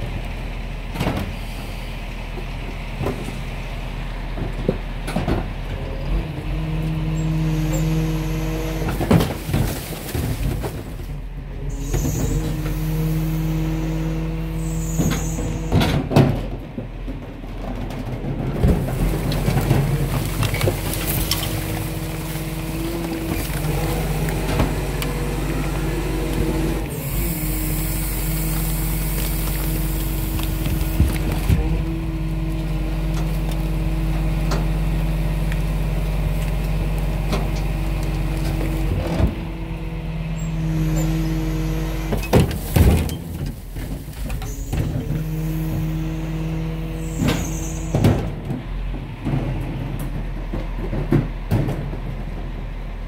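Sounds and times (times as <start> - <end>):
truck engine running: 0.0 - 53.0
hydraulic compactor crushing: 7.2 - 52.5.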